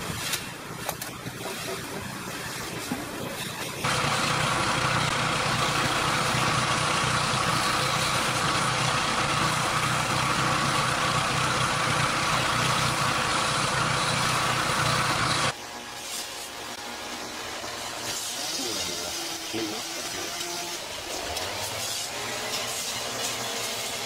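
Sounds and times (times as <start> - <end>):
water jet hissing: 3.4 - 24.0
pressure washer motor drone: 3.8 - 24.0.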